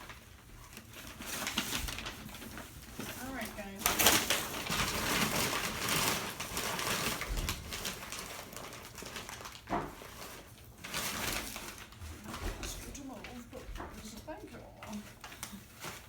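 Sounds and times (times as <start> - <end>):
wrapping paper rustling: 0.0 - 16.0.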